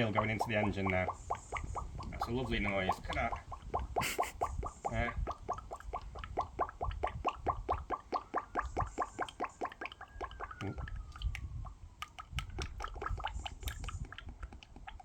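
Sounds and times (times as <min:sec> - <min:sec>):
oil glugging from bottle: 0:00.0 - 0:15.0.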